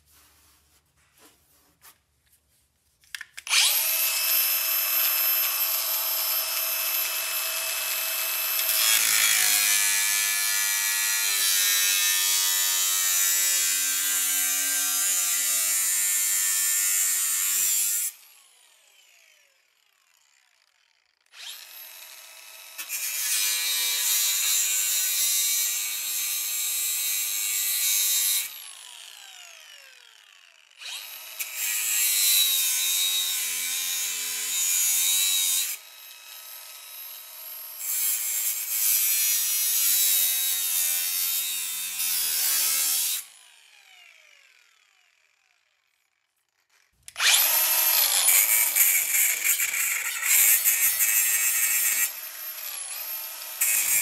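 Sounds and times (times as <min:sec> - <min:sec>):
grinder grinding metal: 0:03.4 - 0:18.1, 0:21.4 - 0:29.3, 0:30.2 - 0:43.8, 0:46.7 - 0:54.0.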